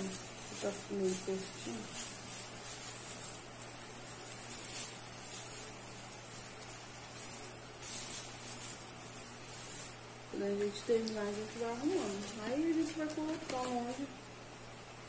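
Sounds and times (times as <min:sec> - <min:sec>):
tinsel garland rustling: 0:00.0 - 0:14.2
low steady hum: 0:00.0 - 0:15.0.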